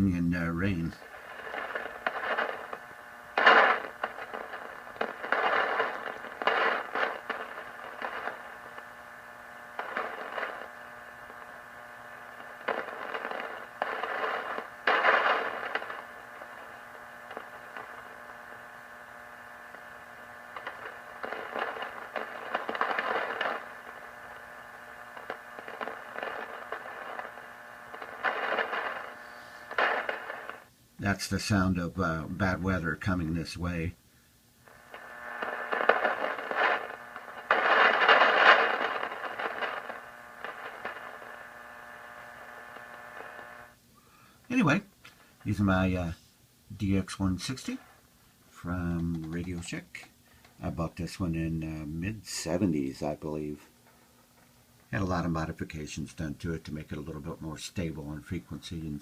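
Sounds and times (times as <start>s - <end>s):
radio static crashes and crackles: 0.0s - 34.0s, 34.6s - 43.9s, 44.5s - 59.0s
steady hiss and hum: 0.0s - 59.0s.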